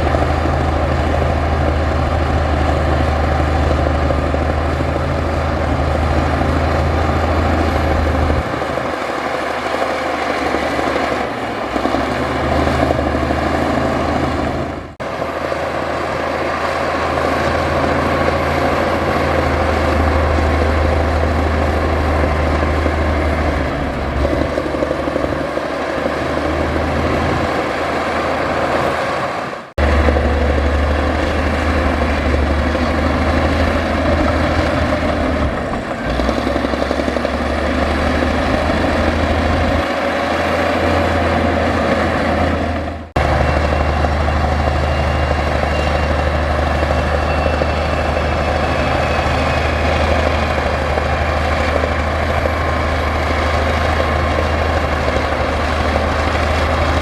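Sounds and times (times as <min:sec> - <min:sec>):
heavy diesel engine working: 0:00.0 - 0:57.0.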